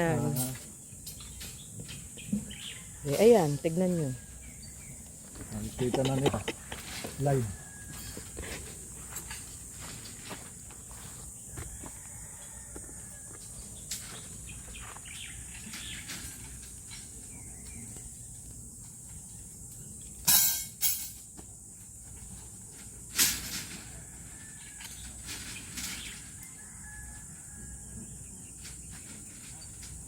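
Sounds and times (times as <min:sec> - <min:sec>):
insect hiss: 0:00.0 - 0:30.0.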